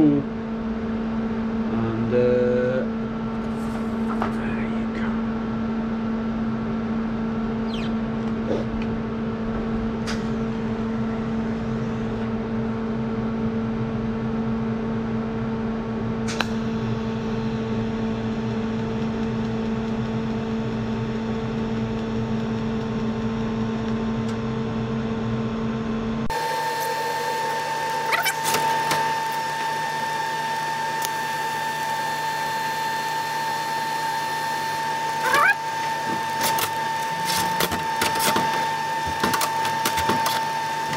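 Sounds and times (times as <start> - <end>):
welding set humming and whining: 0.0 - 40.9.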